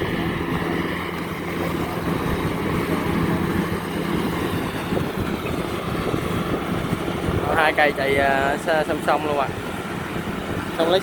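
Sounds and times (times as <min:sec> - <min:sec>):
harvester diesel engine droning: 0:00.0 - 0:11.0.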